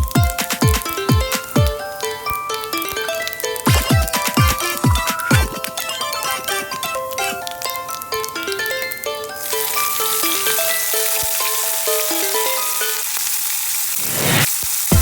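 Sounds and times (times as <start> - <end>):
plucked background melody: 0.0 - 13.2
food sizzling in hot oil: 0.0 - 15.0.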